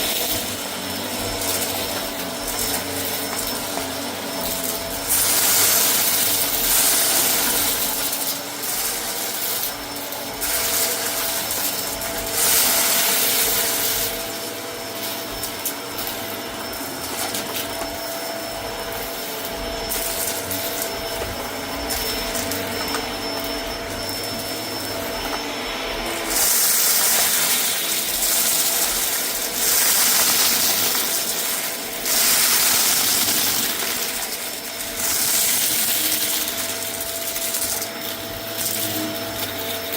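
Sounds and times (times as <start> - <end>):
vacuum cleaner on a rug: 0.0 - 39.9.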